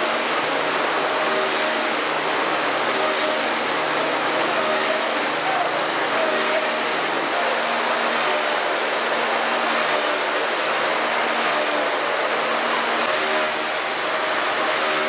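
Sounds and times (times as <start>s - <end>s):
machine cutters milling a log: 0.0s - 15.0s
steady mechanical hum: 0.0s - 15.0s.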